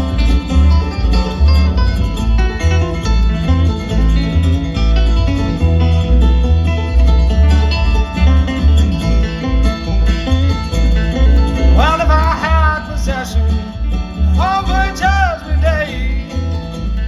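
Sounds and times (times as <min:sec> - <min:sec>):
bluegrass band playing: 0:00.0 - 0:17.0.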